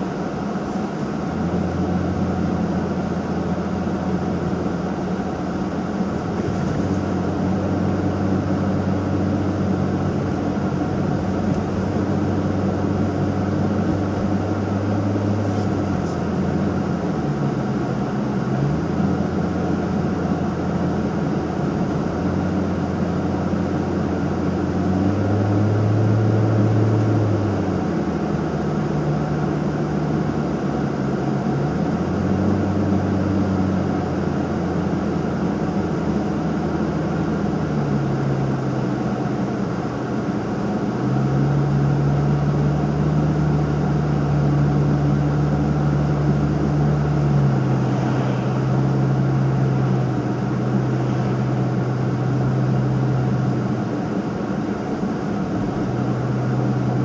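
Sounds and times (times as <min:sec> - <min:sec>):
car engine drone: 0:00.0 - 0:57.0
road and tyre noise: 0:00.0 - 0:57.0.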